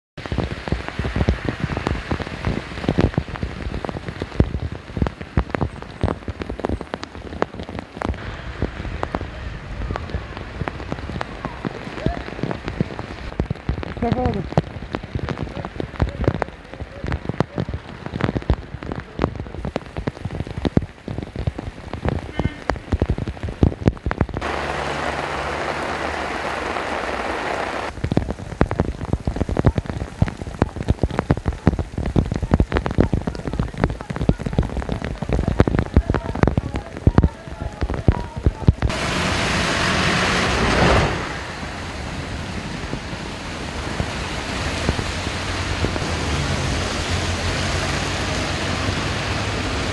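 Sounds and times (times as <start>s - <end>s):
heavy rain on pavement: 0.2s - 49.9s
low rumble: 0.2s - 49.9s.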